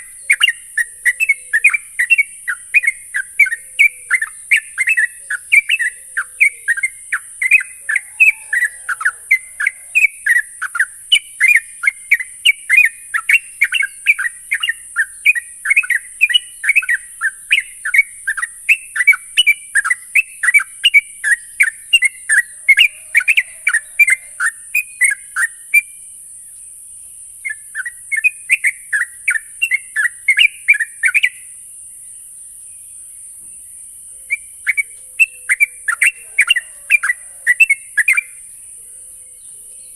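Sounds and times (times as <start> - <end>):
bird chattering song: 0.0 - 31.6, 32.5 - 39.9.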